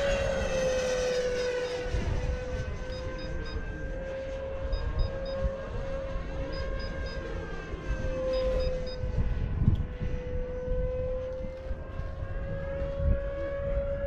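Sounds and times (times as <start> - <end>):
model jet fan whine: 0.0 - 14.0.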